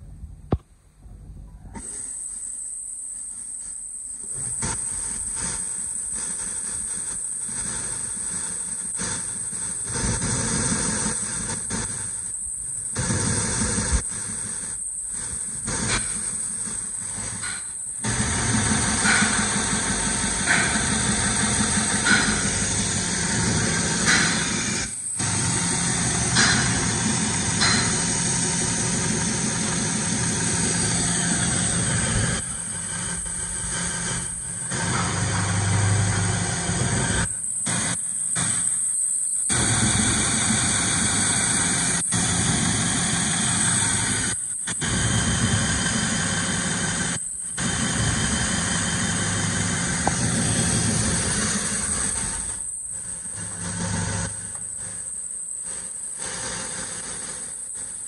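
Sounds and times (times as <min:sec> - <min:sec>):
belt sander running: 0:04.6 - 0:38.8, 0:39.5 - 0:58.0.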